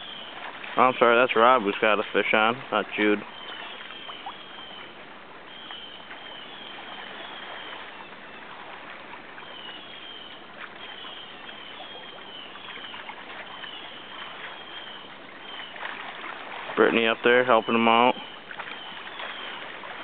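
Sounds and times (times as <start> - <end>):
shallow river rushing: 0.0 - 20.0.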